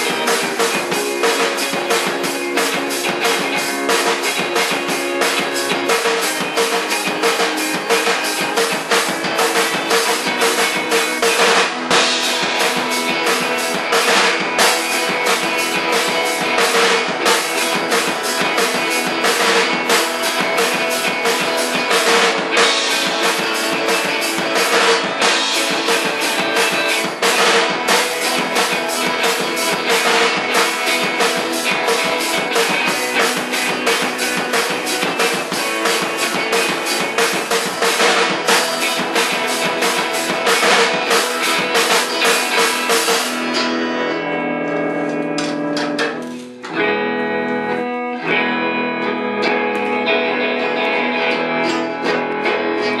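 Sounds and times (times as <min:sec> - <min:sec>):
held guitar notes: 0:00.0 - 0:53.0
live band playing: 0:00.0 - 0:53.0.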